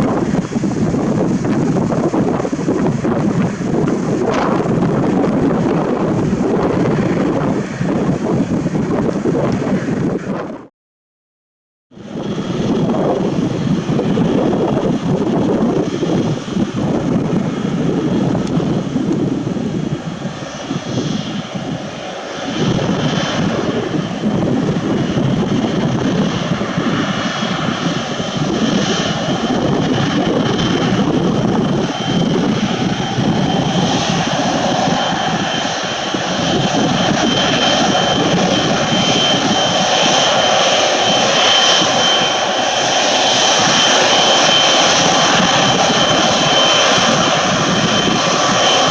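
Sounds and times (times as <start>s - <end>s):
jet engines roaring with whine: 0.0s - 10.7s, 11.9s - 48.9s.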